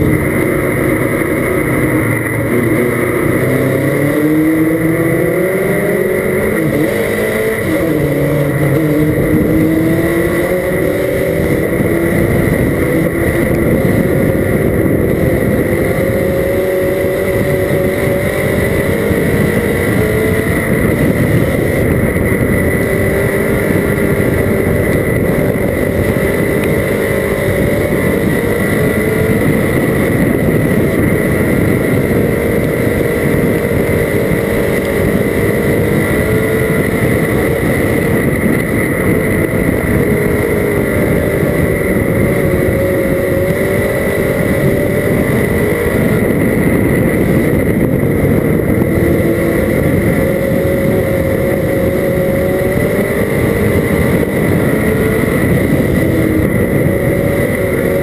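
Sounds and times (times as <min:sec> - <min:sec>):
race car engine running: 0:00.0 - 0:58.0
steady high whine: 0:00.0 - 0:58.0.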